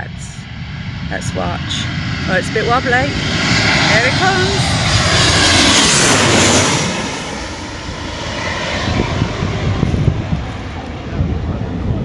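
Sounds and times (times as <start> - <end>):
jet airliner engine roar: 0.0 - 12.0.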